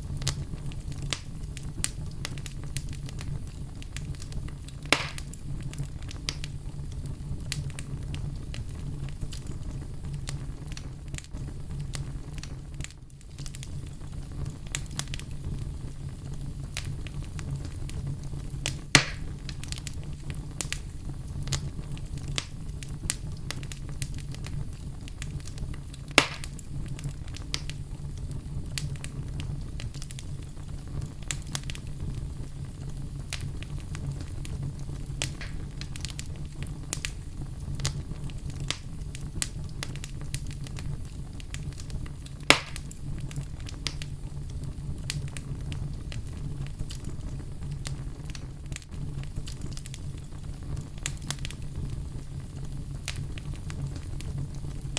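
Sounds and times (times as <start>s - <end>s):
loud fire pops: 0.0s - 54.9s
low rumble of flames: 0.0s - 54.9s
small fire crackles: 0.0s - 54.9s.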